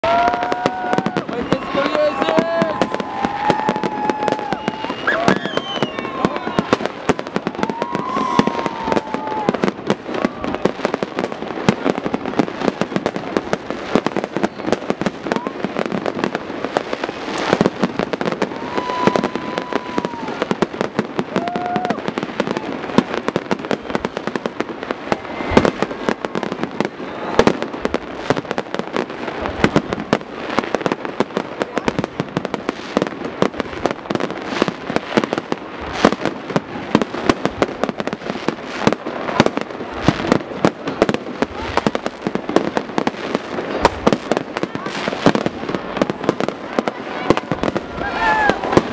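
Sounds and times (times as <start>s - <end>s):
fireworks bangs and crackles: 0.0s - 48.9s
loud firework booms: 0.0s - 48.9s.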